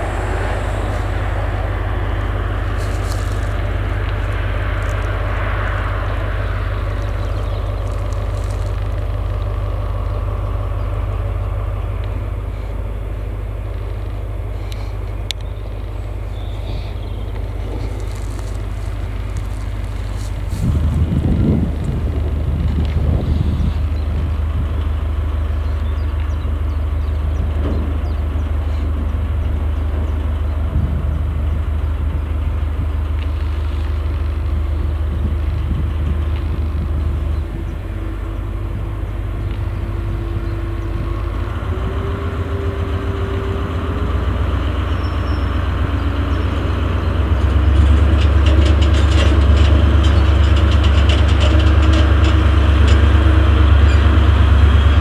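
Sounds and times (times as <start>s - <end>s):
locomotive engine humming: 0.0s - 55.0s.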